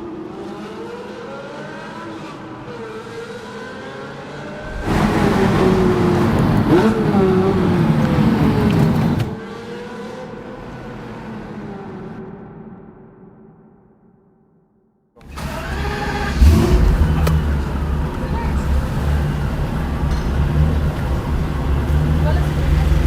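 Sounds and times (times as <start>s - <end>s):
sports car engine revving: 0.0s - 12.2s, 15.2s - 23.0s
car accelerating past: 0.1s - 12.4s, 15.2s - 23.0s.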